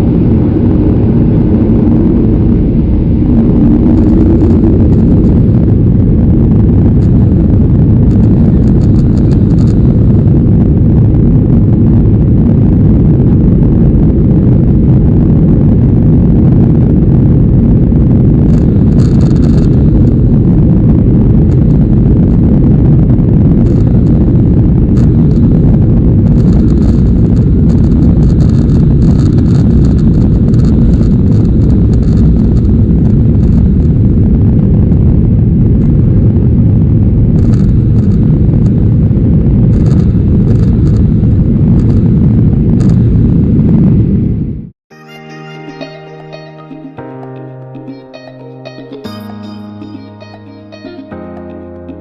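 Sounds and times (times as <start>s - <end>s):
jet engines rumbling in cabin: 0.0s - 44.7s.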